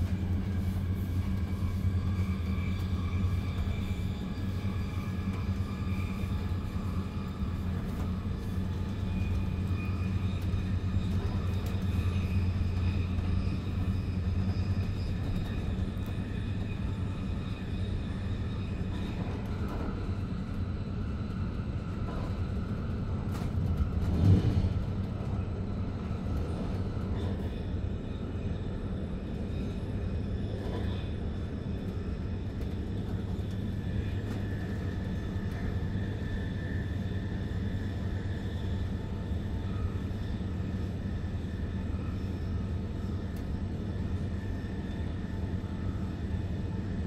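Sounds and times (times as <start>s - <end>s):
train running gear rumble: 0.0s - 47.0s.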